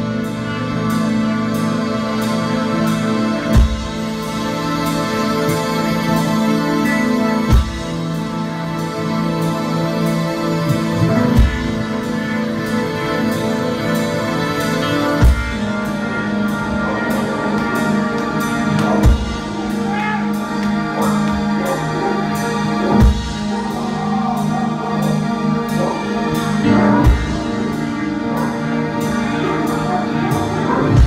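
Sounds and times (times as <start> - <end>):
keyboard chords: 0.0 - 31.0
rock band playing: 0.0 - 31.0.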